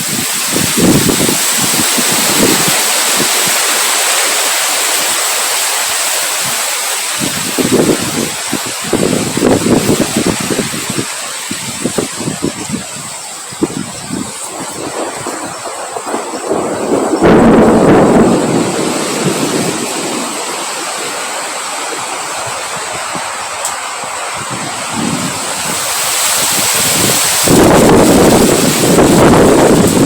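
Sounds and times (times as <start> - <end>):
rain hissing: 0.0 - 30.0
wind gusting rumbles: 0.0 - 30.0.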